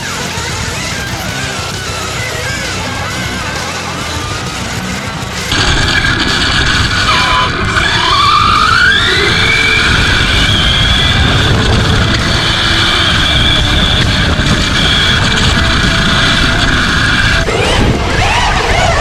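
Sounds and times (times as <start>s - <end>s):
constant low rumble: 0.0s - 19.0s
electric toy truck motor whining: 0.3s - 19.0s.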